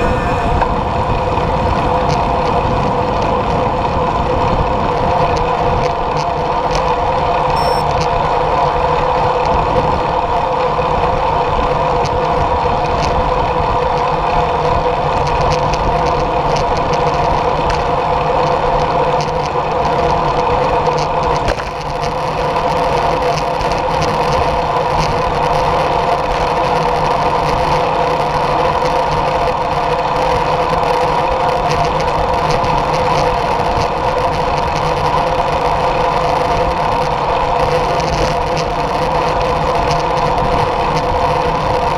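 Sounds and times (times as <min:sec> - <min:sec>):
bike tyres humming on asphalt: 0:00.0 - 0:41.9
wind rushing over microphone: 0:00.0 - 0:41.9.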